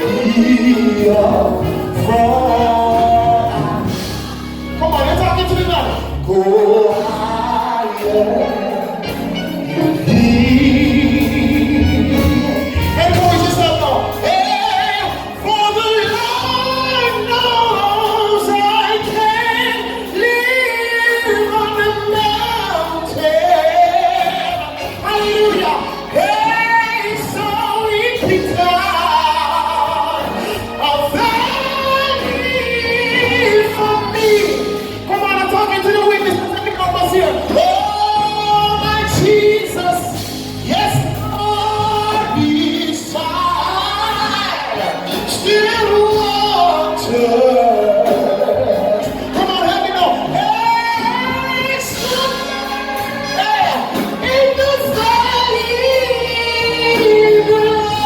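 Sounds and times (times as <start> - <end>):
instrumental accompaniment: 0.0 - 58.0
person singing gospel: 0.0 - 58.0.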